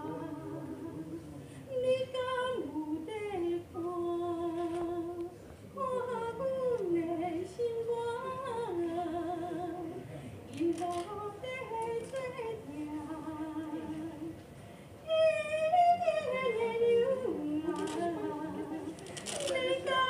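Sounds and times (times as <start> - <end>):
woman singing unaccompanied: 0.0 - 10.0, 10.6 - 14.4, 15.0 - 20.0.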